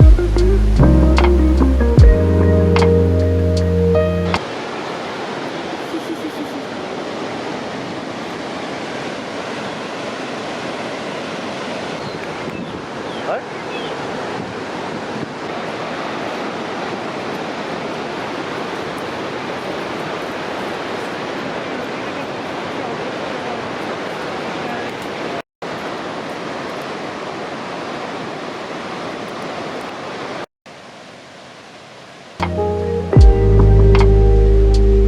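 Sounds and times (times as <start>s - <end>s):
waterfall rushing: 0.0s - 33.1s.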